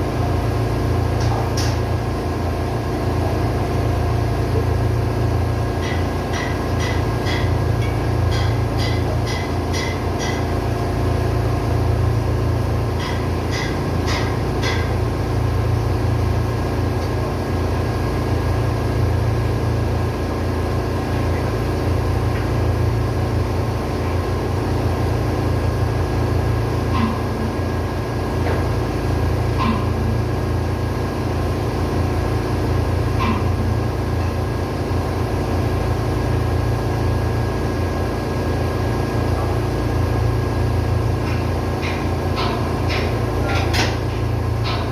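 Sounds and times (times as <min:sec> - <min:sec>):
engine room machinery humming: 0:00.0 - 0:44.9.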